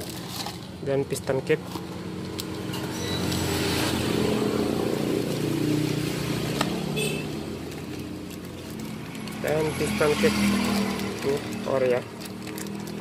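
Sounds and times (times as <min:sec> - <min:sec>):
vehicle engine humming: 0:01.6 - 0:13.0.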